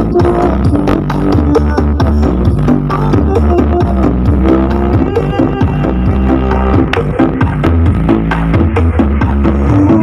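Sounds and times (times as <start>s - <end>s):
loud bass-heavy dance music: 0.0s - 10.0s.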